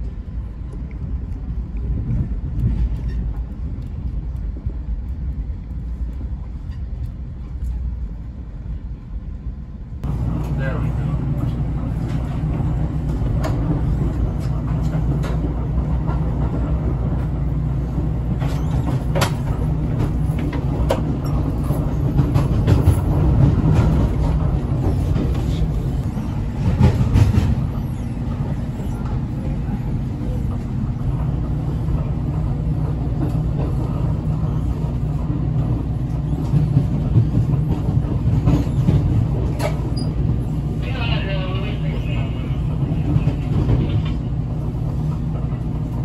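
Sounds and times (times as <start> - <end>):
train rumble inside passenger car: 0.0 - 46.0.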